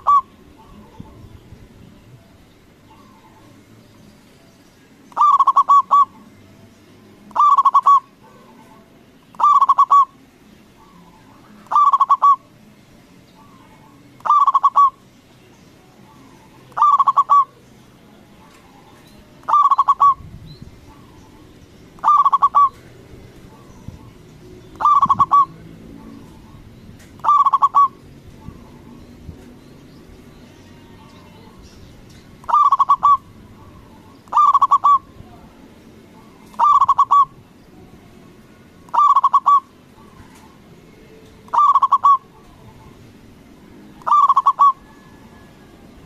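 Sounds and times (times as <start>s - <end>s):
dove cooing song: 0.0s - 3.8s, 5.1s - 12.7s, 13.3s - 15.0s, 15.7s - 29.5s, 30.7s - 46.0s.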